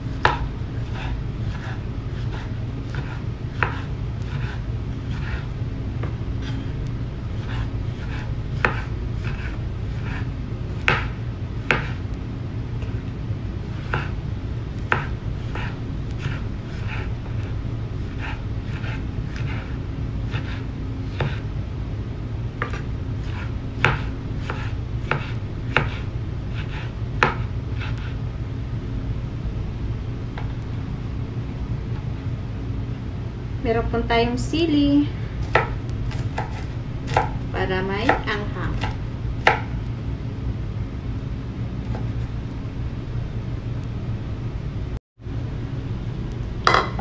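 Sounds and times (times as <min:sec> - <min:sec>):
low hum: 0:00.0 - 0:47.0.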